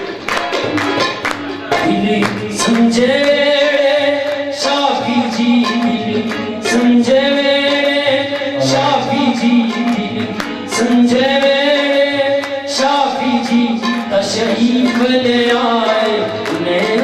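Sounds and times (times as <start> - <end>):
harmonium: 0.0 - 17.0
tabla strokes: 0.0 - 17.0
man singing: 1.7 - 17.0.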